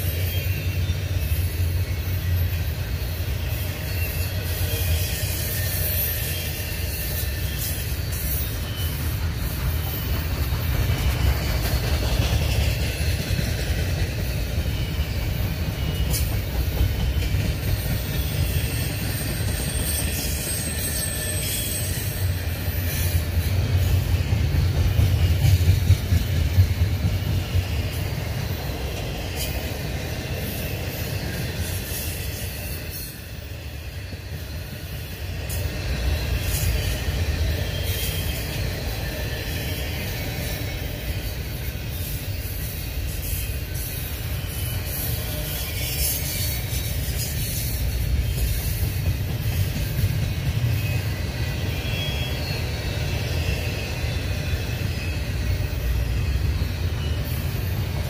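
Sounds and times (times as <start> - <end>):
high wheel squeal: 0.0 - 25.6, 26.6 - 58.0
train wheels rumbling on rail: 0.0 - 58.0.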